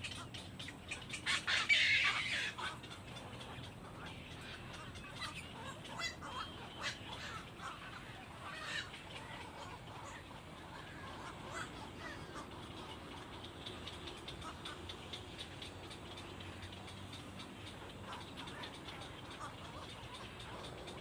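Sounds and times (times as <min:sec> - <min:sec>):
bird rattling call: 0:00.0 - 0:21.0
birds chirping: 0:00.0 - 0:21.0
low background hum: 0:00.0 - 0:21.0.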